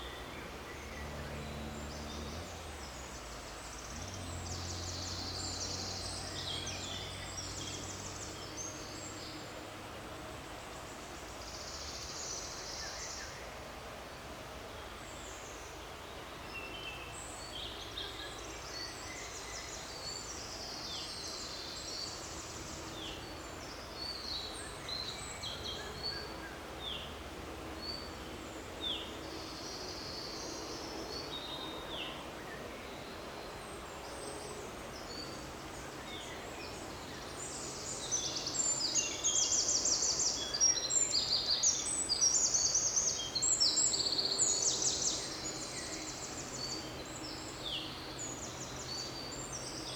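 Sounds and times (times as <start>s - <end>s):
background hiss: 0.0s - 49.9s.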